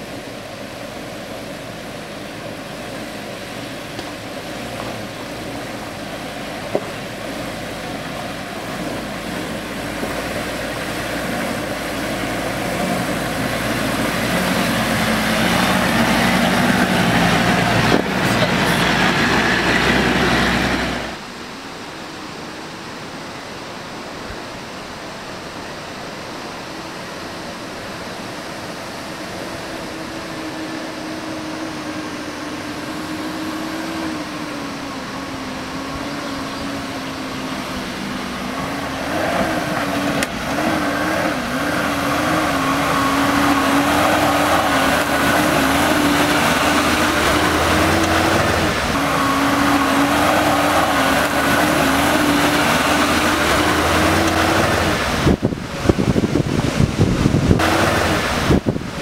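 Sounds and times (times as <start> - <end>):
car engine humming: 0.0 - 22.3, 24.3 - 59.0
road and tyre noise: 0.0 - 59.0.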